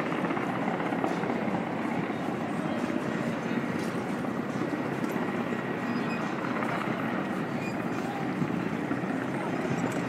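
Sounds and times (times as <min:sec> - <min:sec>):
helicopter rotor and engine drone: 0:00.0 - 0:10.0.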